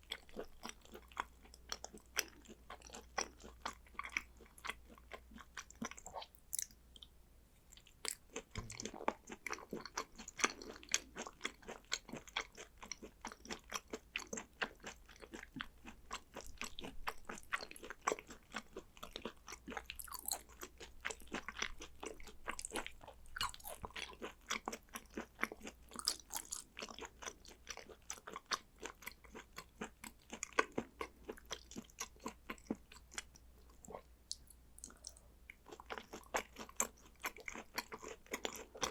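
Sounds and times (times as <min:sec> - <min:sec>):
chewing mouth clicks and smacks: 0:00.0 - 0:07.1, 0:07.7 - 0:38.9.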